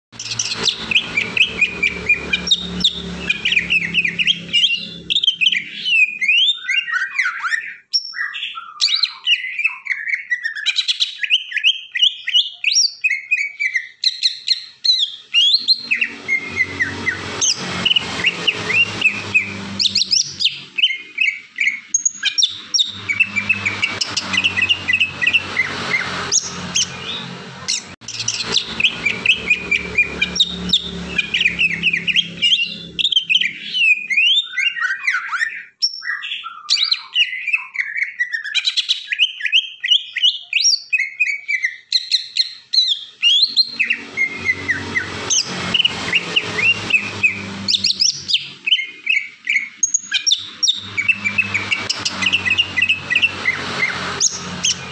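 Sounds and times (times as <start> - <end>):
bird chirping and whistling: 0.2 - 54.9.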